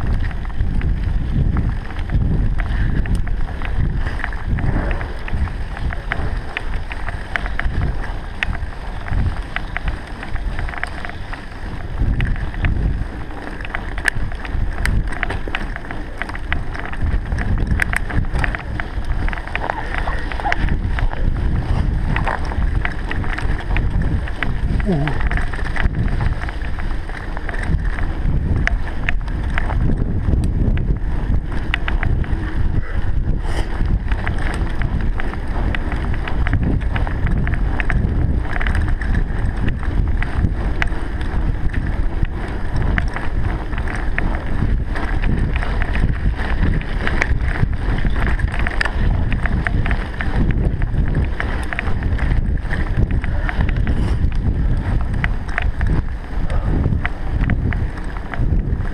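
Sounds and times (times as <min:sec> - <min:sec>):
wind buffeting microphone: 0:00.0 - 0:58.9
small clicks and knocks: 0:01.9 - 0:32.5, 0:33.6 - 0:58.9.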